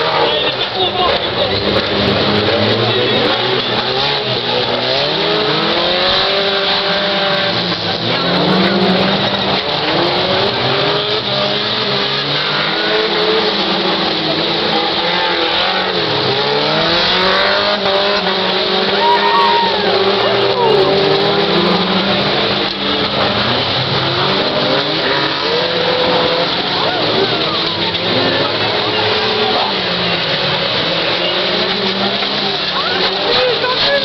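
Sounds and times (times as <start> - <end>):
stock car engines revving: 0.0 - 34.0.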